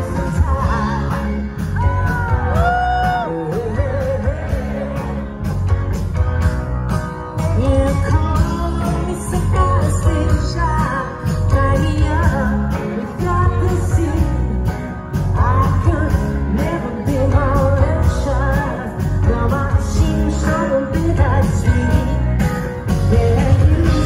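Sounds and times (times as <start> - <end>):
woman singing: 0.0 - 5.3, 7.5 - 24.0
pop-rock band playing: 0.0 - 24.0.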